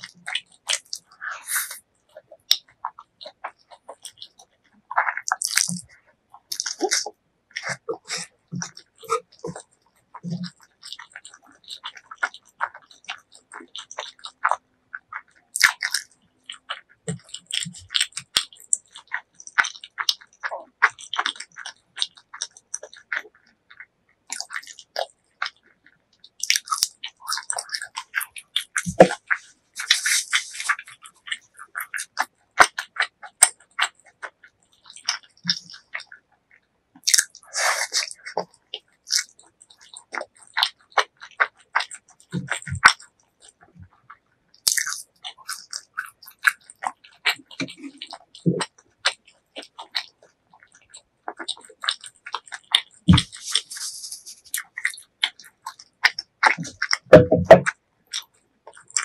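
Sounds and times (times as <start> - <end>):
wet mouth clicks and smacks: 0.0 - 25.7, 34.7 - 36.2, 37.0 - 59.0
person chewing food: 0.0 - 59.0.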